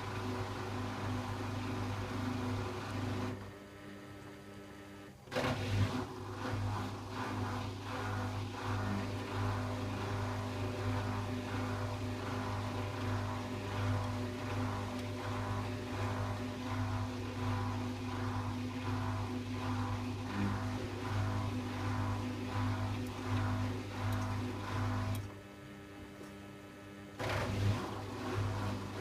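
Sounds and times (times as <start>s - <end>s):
washing machine motor humming: 0.0s - 29.0s.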